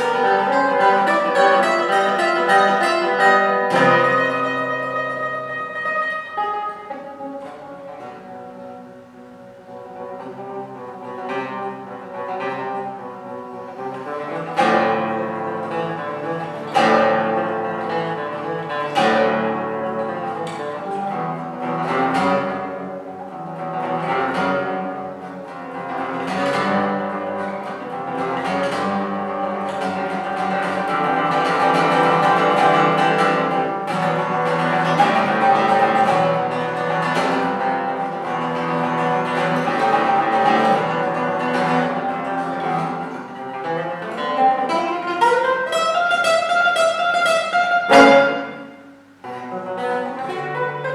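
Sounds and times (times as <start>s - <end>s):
classical guitar playing: 0.0s - 50.9s.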